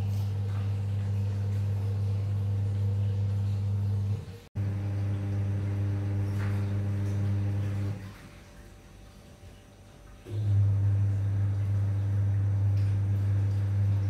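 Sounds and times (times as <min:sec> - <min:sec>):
low hum with overtones: 0:00.0 - 0:14.0.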